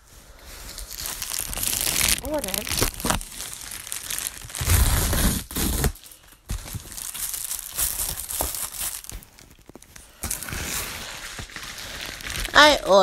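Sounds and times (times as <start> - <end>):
plastic bag tearing and crinkling: 0.6 - 13.0.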